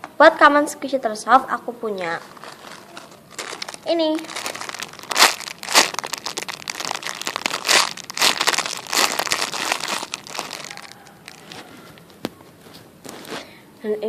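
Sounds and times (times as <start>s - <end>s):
plastic packaging crinkling: 2.0s - 13.5s.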